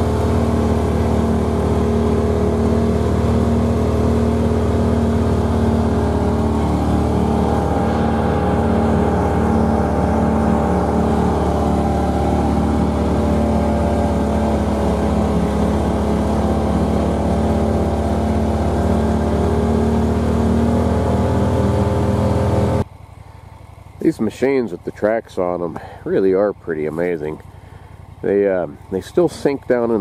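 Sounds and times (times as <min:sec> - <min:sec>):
vehicle engine running under load: 0:00.0 - 0:30.0.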